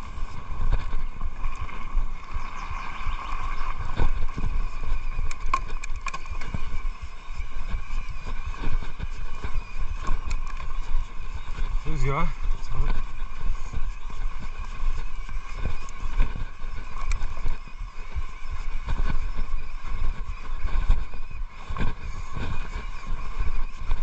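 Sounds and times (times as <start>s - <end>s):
bike knocking and rattling: 0.0s - 19.8s
bike tyres rumbling over dirt: 0.0s - 24.0s
steady whine: 0.0s - 24.0s.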